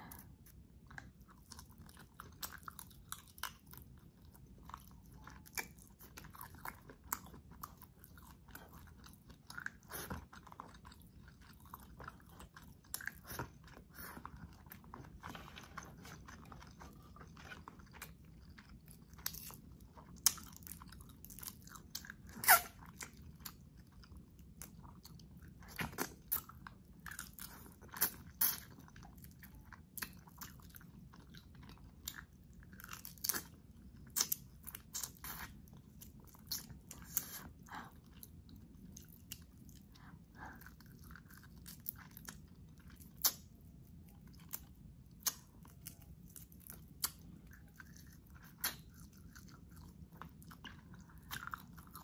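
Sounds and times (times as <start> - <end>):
chewing with crunches: 0.0 - 52.0.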